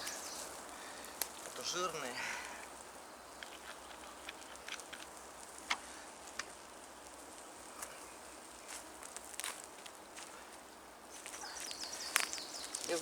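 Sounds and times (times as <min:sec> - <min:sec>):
campfire crackling: 0:00.0 - 0:13.0
faint steady hiss: 0:00.0 - 0:13.0.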